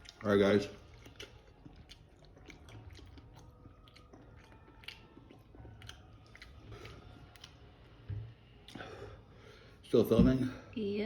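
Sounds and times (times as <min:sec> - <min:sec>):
faint chewing: 0:00.0 - 0:09.3.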